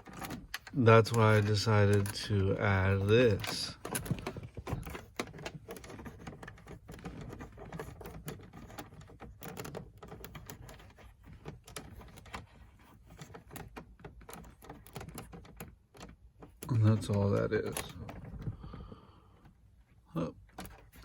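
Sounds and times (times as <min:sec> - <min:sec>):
hands handling plastic glove box: 0:00.0 - 0:21.0.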